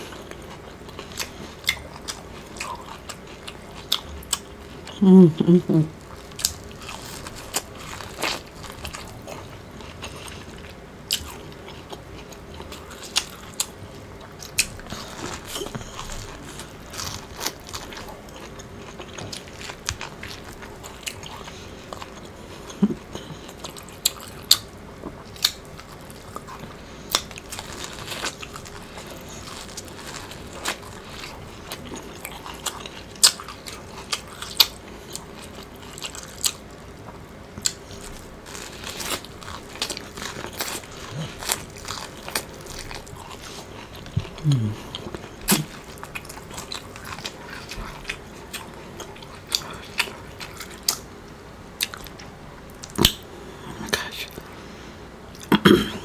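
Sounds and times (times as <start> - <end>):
corn chewing with crunches: 0.0 - 5.0, 5.8 - 51.1, 51.8 - 53.3.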